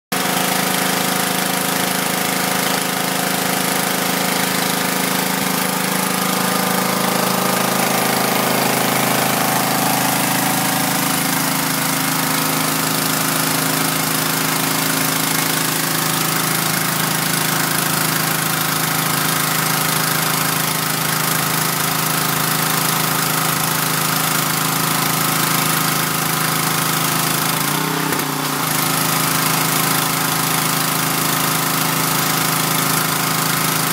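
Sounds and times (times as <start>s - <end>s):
power washer motor hum: 0.1s - 33.9s.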